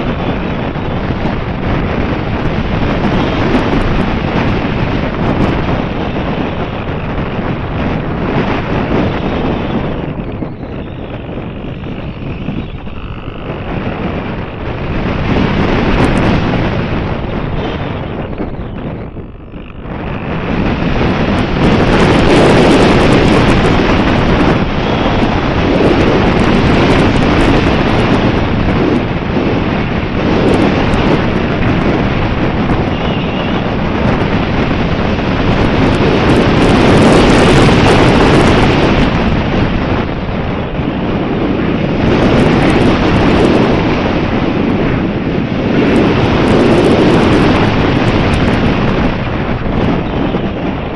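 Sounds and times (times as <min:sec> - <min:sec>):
strong wind buffeting microphone: 0:00.0 - 0:50.9.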